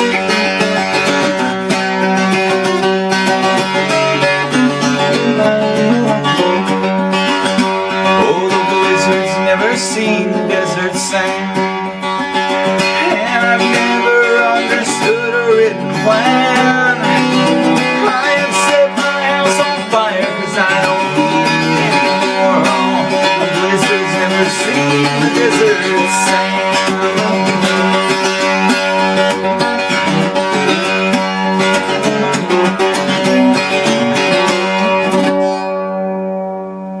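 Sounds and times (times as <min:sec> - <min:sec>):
octave mandolin melody: 0:00.0 - 0:37.0.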